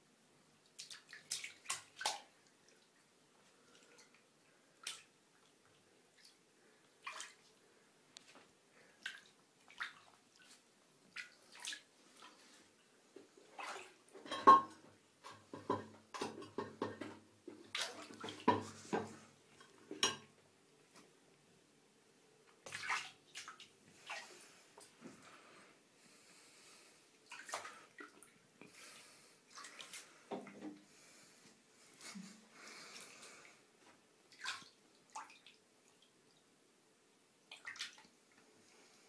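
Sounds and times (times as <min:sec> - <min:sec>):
water splashing in a bathtub: 0:00.5 - 0:20.4, 0:22.4 - 0:25.5, 0:27.1 - 0:31.2, 0:31.8 - 0:36.7, 0:37.3 - 0:38.5.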